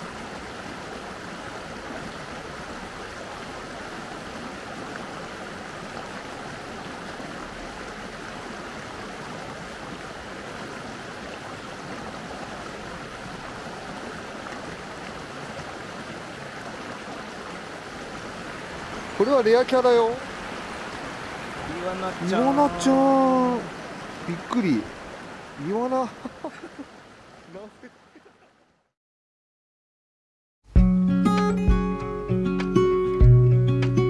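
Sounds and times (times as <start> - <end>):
mountain stream flowing: 0.0 - 29.0.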